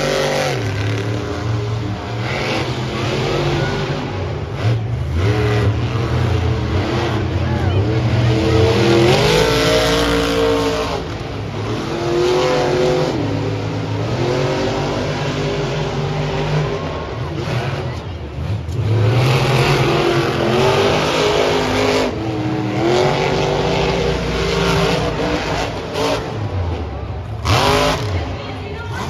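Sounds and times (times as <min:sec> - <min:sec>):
monster truck engines revving: 0:00.0 - 0:29.0.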